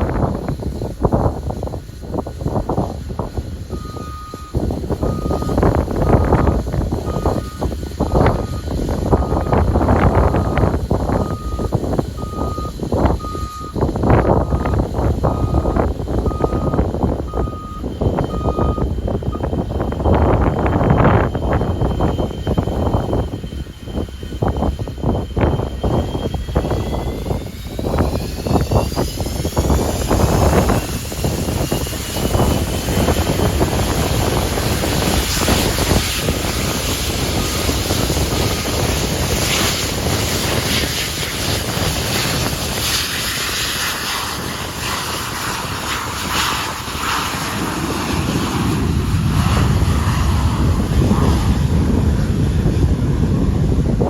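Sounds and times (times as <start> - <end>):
jet engines spooling up: 0.0 - 54.0
wind buffeting microphone: 0.0 - 54.0.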